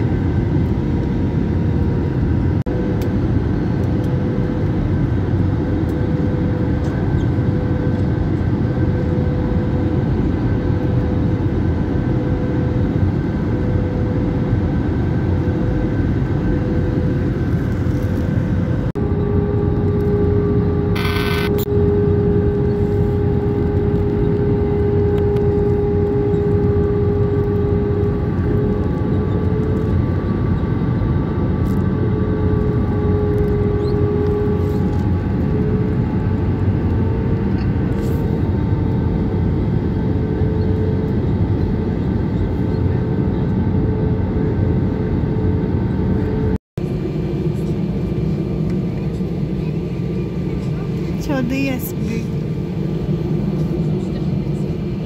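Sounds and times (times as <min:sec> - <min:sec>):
jet engines droning with whine: 0:00.0 - 0:55.0.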